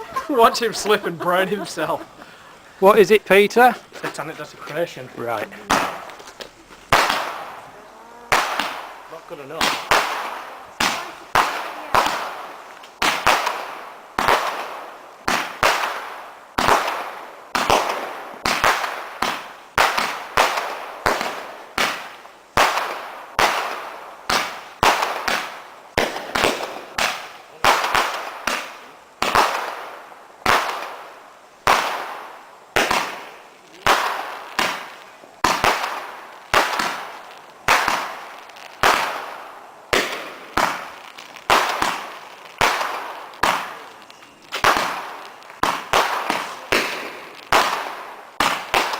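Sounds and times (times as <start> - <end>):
firework bangs: 0.0 - 48.9.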